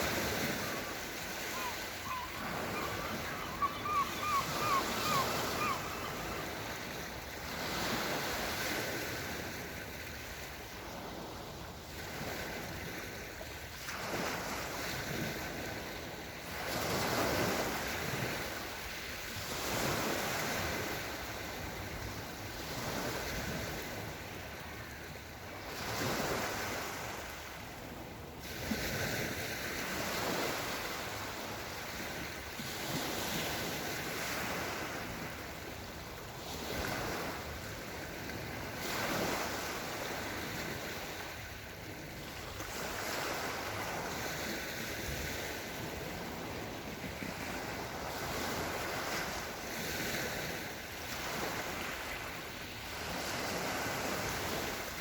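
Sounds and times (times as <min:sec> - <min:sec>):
small waves washing onto shore: 0:00.0 - 0:55.0.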